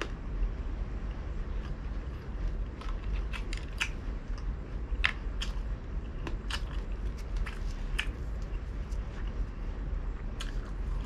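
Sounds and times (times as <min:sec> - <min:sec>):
chewing crispy food: 0:01.2 - 0:09.5, 0:10.2 - 0:11.0.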